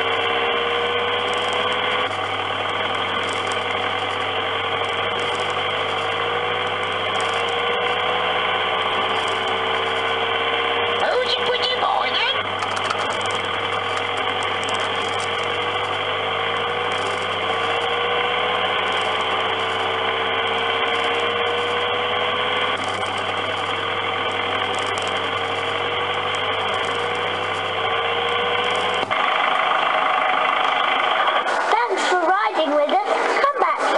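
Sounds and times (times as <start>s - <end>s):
engine-like running noise: 0.0s - 33.9s
kiddie ride motor hum: 0.0s - 33.9s.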